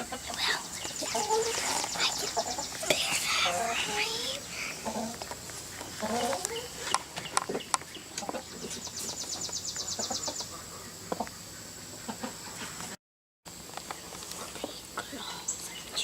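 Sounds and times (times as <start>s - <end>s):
low clucking bird calls: 0.0s - 12.8s.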